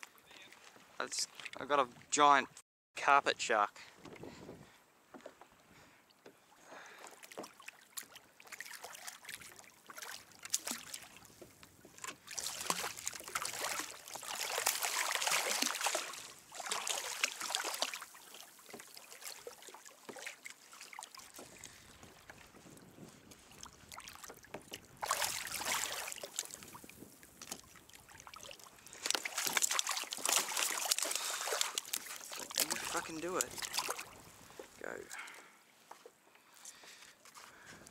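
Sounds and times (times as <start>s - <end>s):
water splashing against kayak: 5.2s - 37.8s.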